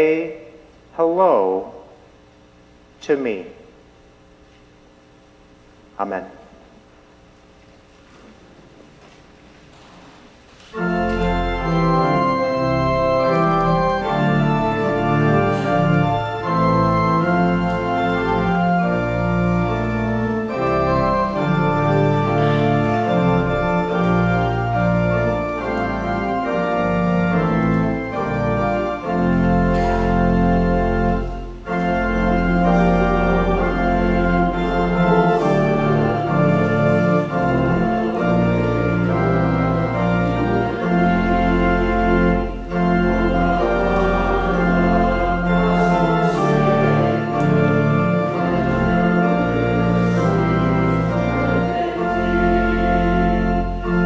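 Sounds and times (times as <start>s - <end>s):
church organ chords: 0.0s - 8.5s, 10.6s - 54.0s.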